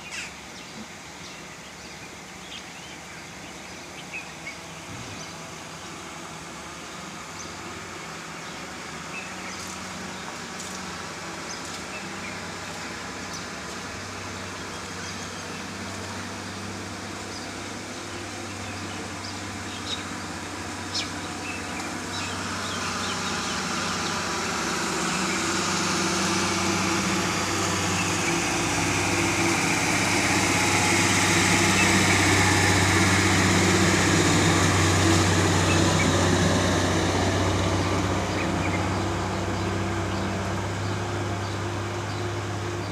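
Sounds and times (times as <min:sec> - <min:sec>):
engine humming: 0:00.0 - 0:42.9.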